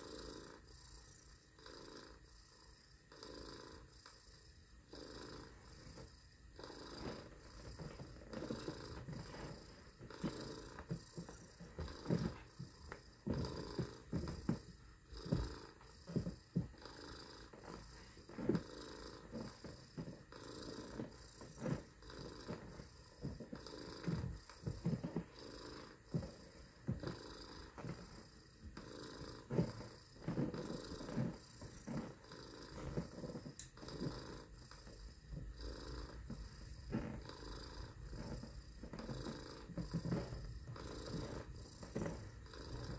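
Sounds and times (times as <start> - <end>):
person imitating cat purr: 5.0 - 42.9.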